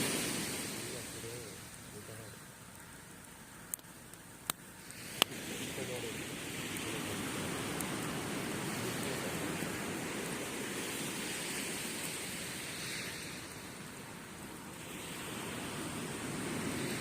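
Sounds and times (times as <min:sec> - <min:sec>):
sea waves washing on beach: 0:00.0 - 0:17.0.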